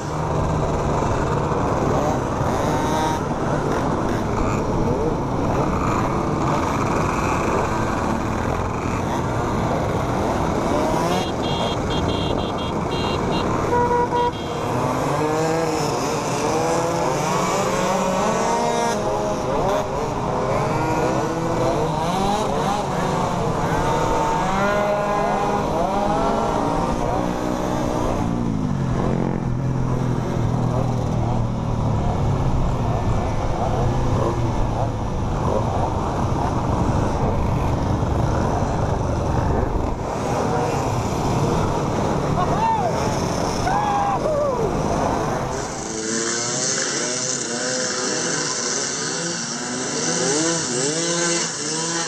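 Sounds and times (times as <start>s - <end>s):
moped engines revving: 0.0s - 52.0s
road noise rush: 0.0s - 52.0s.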